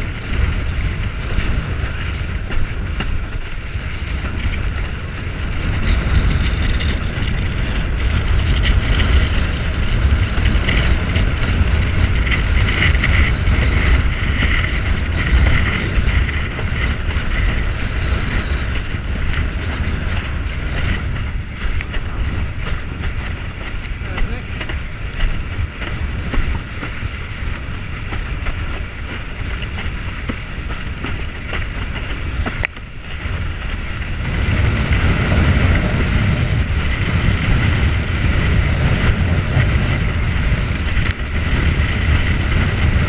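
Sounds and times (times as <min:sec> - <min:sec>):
wind rumble on microphone: 0:00.0 - 0:43.0.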